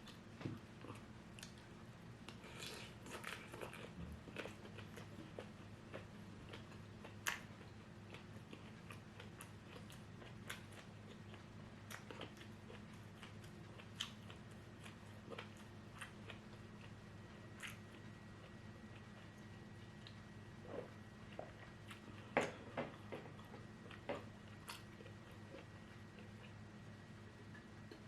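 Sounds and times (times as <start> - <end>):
faint low hum: 0.0 - 28.0
person chewing crunchy food: 2.3 - 26.6.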